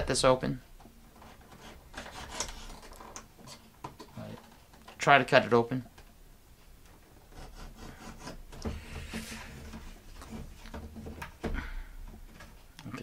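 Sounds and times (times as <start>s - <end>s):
rubbing and light clicks: 0.8s - 5.1s, 5.9s - 12.9s.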